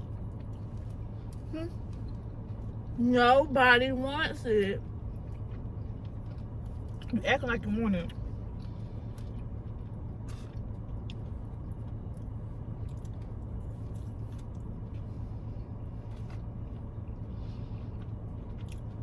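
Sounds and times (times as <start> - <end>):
car idling from inside cabin: 0.0 - 19.0.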